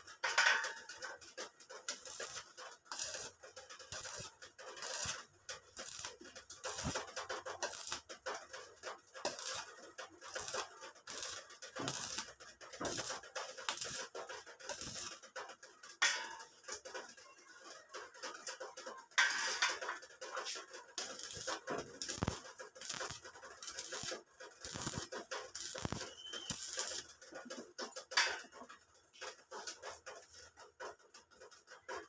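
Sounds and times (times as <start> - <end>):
sharp welding crack: 0.0 - 17.2, 18.0 - 32.0
welding arc crackling: 0.0 - 17.2, 18.1 - 31.9.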